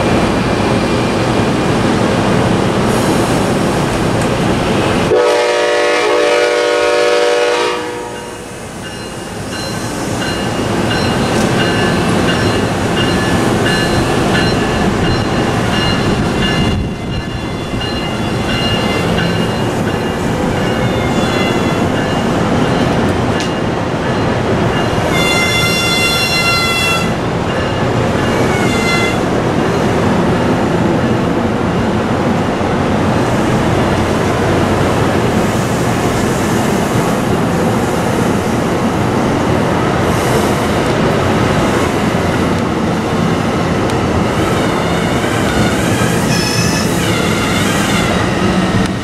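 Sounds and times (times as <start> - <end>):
wheels rumbling on rail: 0.0 - 49.0.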